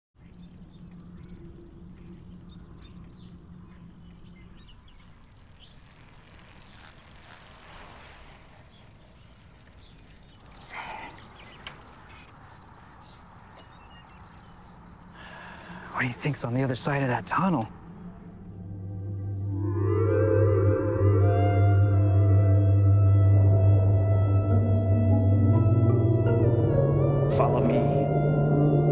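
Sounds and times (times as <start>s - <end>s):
high chirps and ticks: 0.2s - 24.4s
bicycles riding past: 0.2s - 28.9s
low outdoor rumble: 0.2s - 28.9s.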